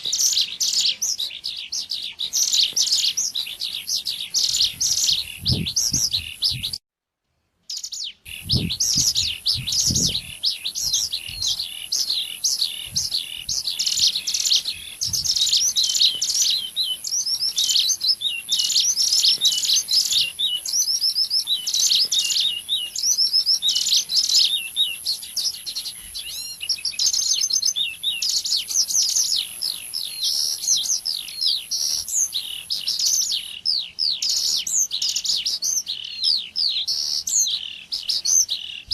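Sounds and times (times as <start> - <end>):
bird chirping and trilling: 0.0 - 6.8, 7.7 - 38.9.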